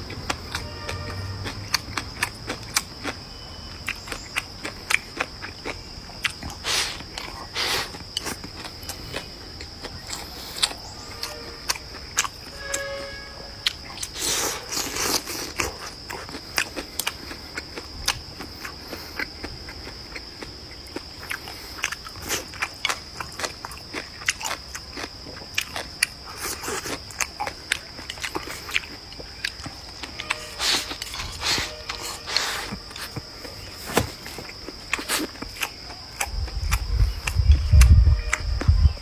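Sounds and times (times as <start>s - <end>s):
person chewing crunchy food: 0.0s - 39.0s.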